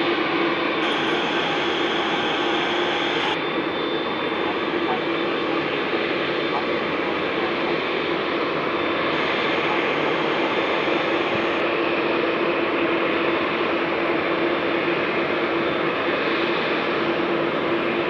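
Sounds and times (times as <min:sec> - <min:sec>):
jet engines at takeoff: 0:00.0 - 0:18.0.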